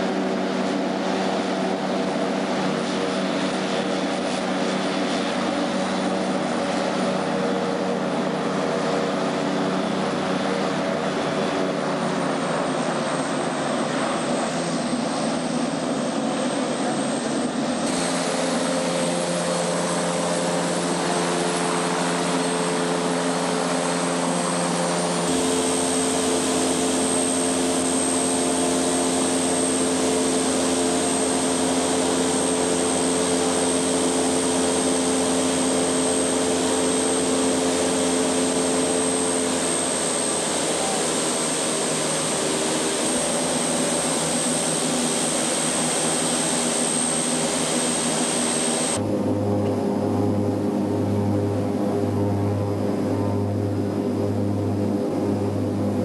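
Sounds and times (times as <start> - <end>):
blimp engines droning: 0.0 - 56.0.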